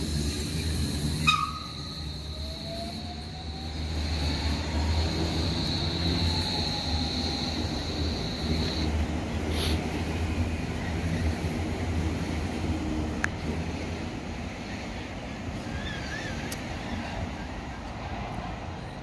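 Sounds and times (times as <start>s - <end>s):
train wheels squealing: 0.0s - 11.6s, 14.4s - 18.9s
low train rumble: 0.0s - 19.0s.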